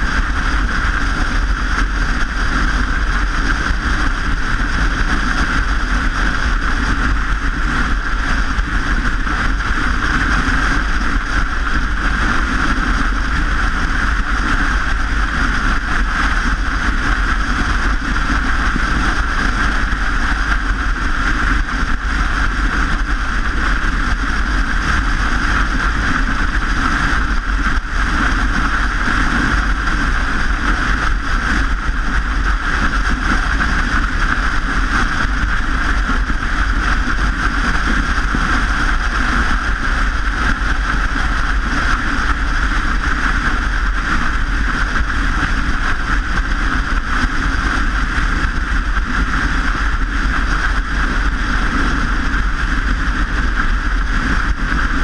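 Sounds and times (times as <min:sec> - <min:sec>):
rushing road noise: 0:00.0 - 0:55.0
wind rumble on microphone: 0:00.0 - 0:55.0.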